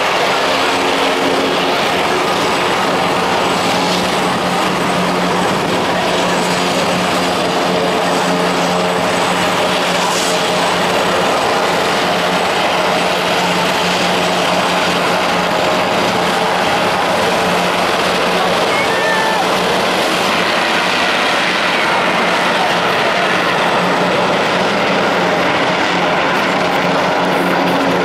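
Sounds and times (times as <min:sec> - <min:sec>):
helicopter engines and rotors: 0:00.0 - 0:28.0.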